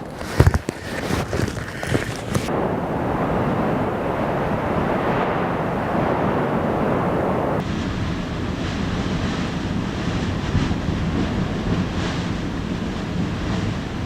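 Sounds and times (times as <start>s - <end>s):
lava lake rumbling: 0.0s - 14.0s
wind roaring: 0.0s - 14.0s.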